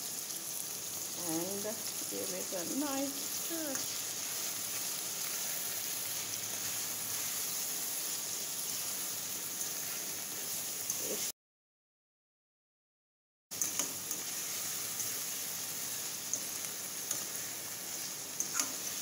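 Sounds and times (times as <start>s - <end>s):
fish sizzling in a pan: 0.0s - 11.3s, 13.5s - 19.0s.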